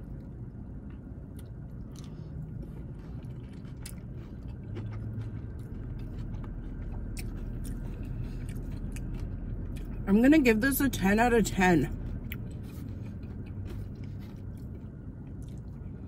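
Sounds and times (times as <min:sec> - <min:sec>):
low steady rumble: 0:00.0 - 0:16.0
wet chewing: 0:00.2 - 0:10.0, 0:11.9 - 0:16.0.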